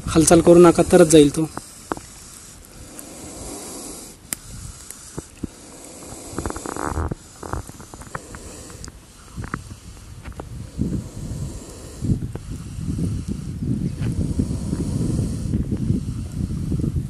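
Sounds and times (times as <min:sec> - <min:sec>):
snake hissing: 0:00.0 - 0:17.0.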